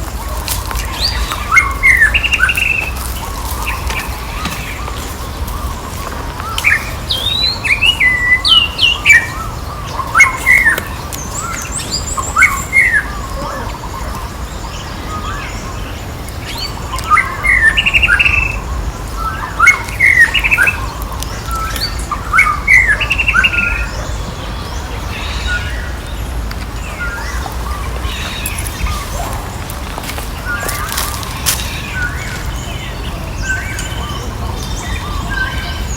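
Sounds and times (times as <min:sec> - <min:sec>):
high chirping animal calls: 0:00.0 - 0:35.9
outdoor background noise: 0:00.0 - 0:35.9.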